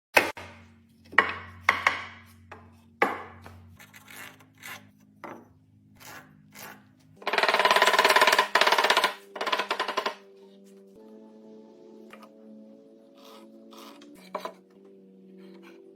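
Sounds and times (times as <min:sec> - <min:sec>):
background music: 0:00.2 - 0:15.9.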